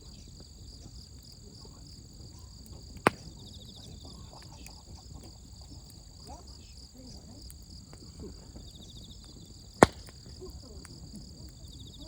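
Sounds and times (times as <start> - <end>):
crickets chirping: 0.0 - 12.0
campfire wood popping and cracking: 0.4 - 11.9.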